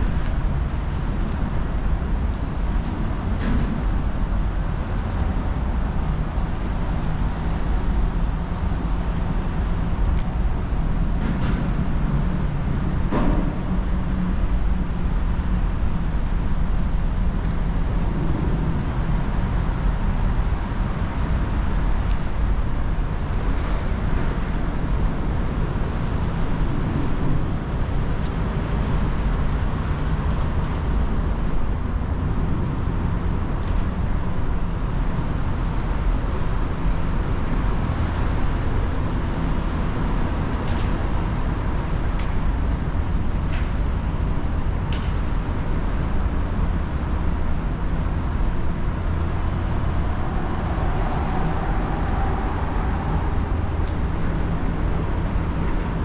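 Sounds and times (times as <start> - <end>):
city traffic rumble: 0.0 - 56.0.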